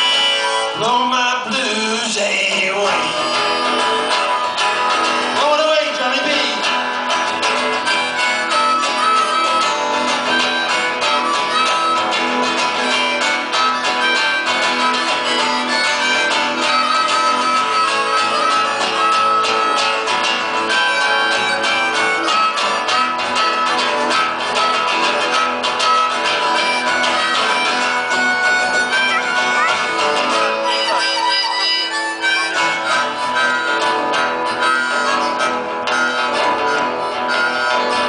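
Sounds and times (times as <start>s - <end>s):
harmonica solo: 0.0s - 38.0s
strummed acoustic guitars: 0.0s - 38.0s.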